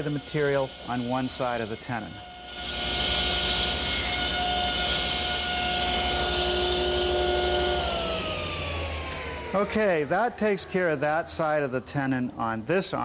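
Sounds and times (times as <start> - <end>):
table saw cutting wood: 0.0 - 11.6.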